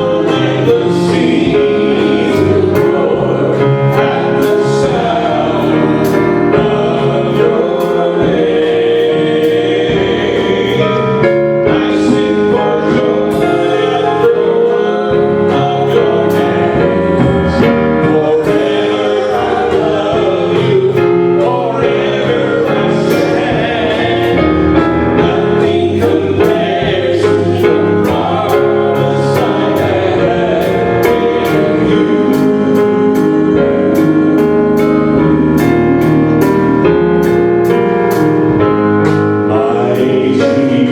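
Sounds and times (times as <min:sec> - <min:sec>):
choir singing a hymn: 0:00.0 - 0:40.9
instrumental accompaniment with beat: 0:00.0 - 0:40.9.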